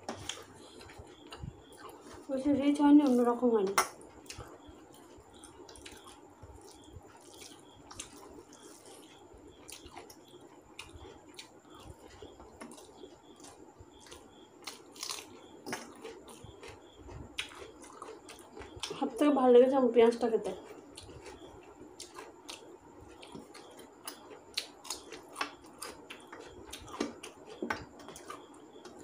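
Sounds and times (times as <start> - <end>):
chewing: 0.0 - 2.3, 4.0 - 19.0, 20.6 - 29.0.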